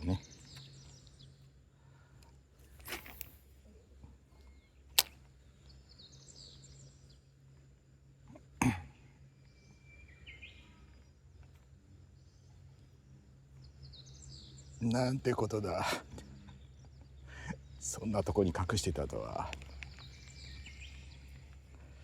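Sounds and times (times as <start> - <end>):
faint birds calling: 0.0 - 22.0.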